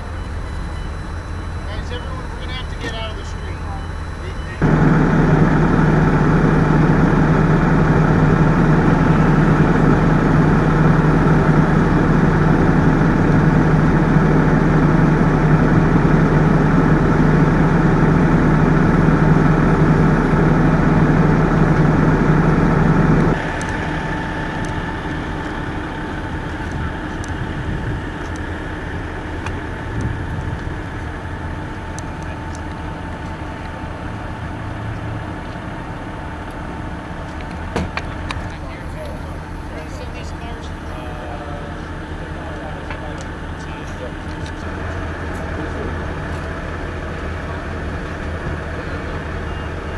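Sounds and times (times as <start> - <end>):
engine idling low hum: 0.0 - 49.9.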